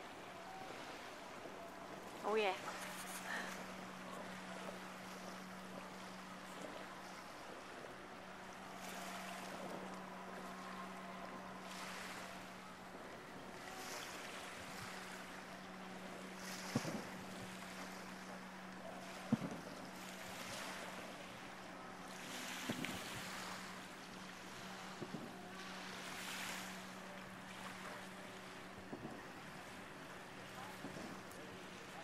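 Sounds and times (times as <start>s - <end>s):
faint wind: 0.0s - 32.0s
steady low hum: 0.0s - 32.0s
water noise: 0.0s - 32.0s.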